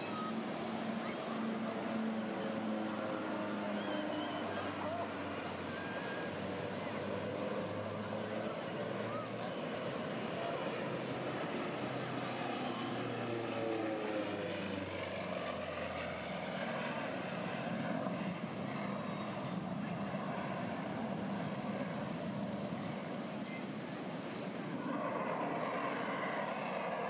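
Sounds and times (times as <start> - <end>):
propeller airplane flying past: 0.0 - 27.0.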